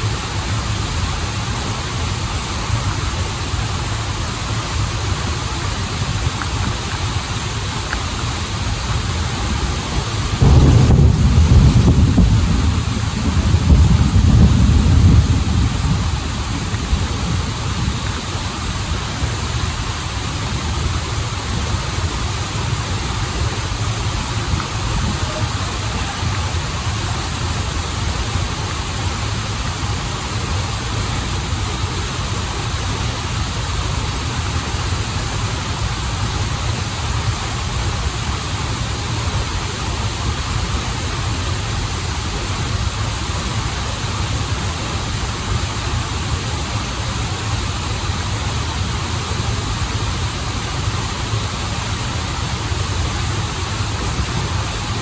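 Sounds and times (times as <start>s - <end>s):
waterfall and stream running: 0.0s - 55.0s.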